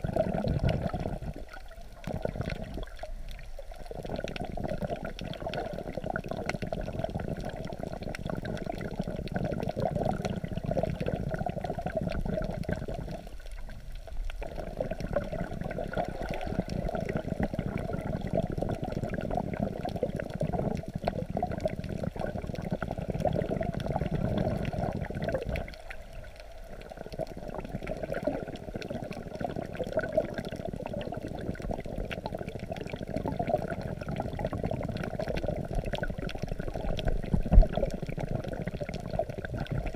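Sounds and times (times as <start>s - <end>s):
underwater sloshing of sea water: 0.0s - 39.9s.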